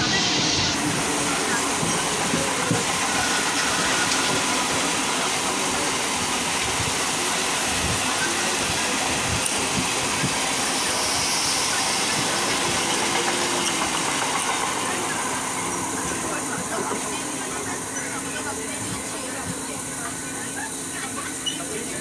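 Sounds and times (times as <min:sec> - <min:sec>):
train wheel and track noise: 0:00.0 - 0:22.0.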